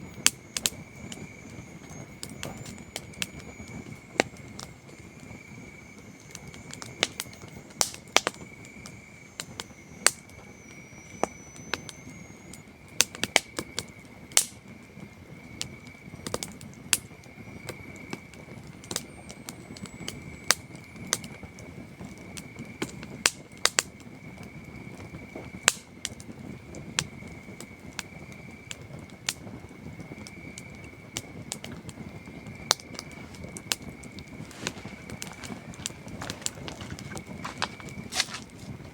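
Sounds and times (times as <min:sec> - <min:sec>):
burning logs popping and snapping: 0:00.0 - 0:38.9
campfire crackling: 0:00.0 - 0:38.9
crickets chirring: 0:00.0 - 0:38.9.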